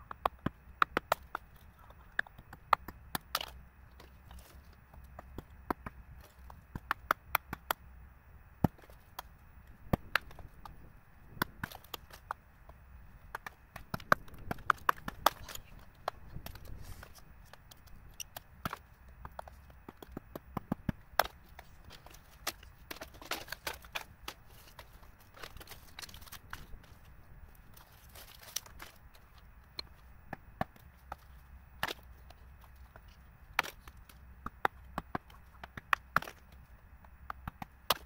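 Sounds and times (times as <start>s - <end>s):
low steady rumble: 0.0s - 37.9s.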